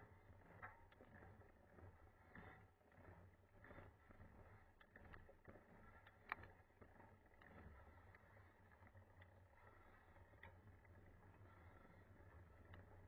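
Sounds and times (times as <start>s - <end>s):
bike ticks and rattles: 0.0s - 13.0s.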